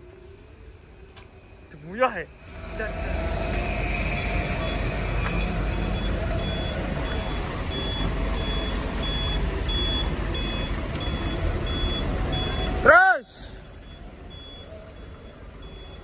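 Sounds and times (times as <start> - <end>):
truck engine rumble: 0.0 - 16.0
truck reversing alarm beeping: 0.3 - 16.0.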